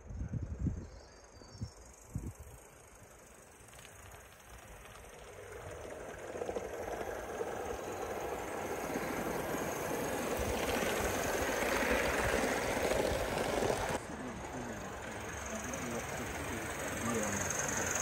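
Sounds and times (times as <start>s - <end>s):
model steam locomotive clatter: 1.9s - 18.0s.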